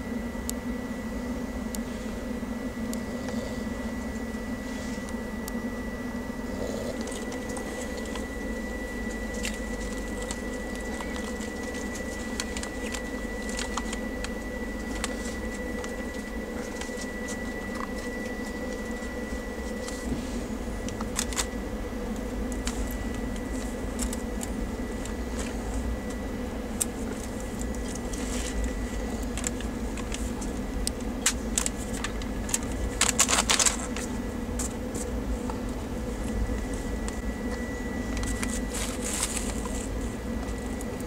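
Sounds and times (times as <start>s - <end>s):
faint high whine: 0.0s - 41.0s.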